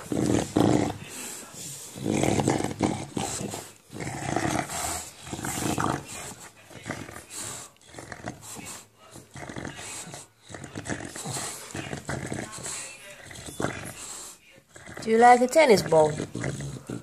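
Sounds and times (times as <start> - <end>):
dog play-growling: 0.0 - 17.0.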